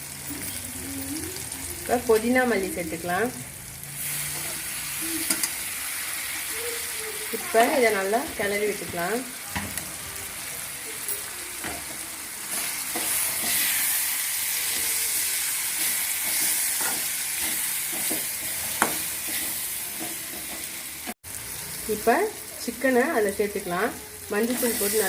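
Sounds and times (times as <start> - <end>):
masala sizzling in a frying pan: 0.0 - 25.0.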